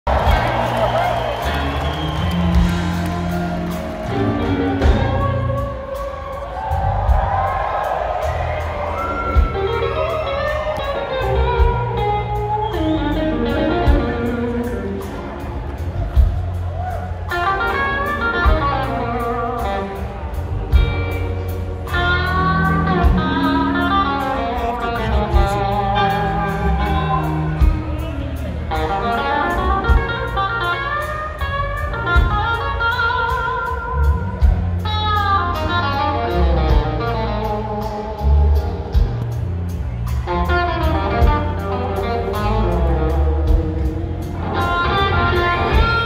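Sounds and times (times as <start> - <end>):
bending lead guitar line: 0.1 - 7.3, 8.1 - 46.0
blues-rock band playing: 0.1 - 46.0.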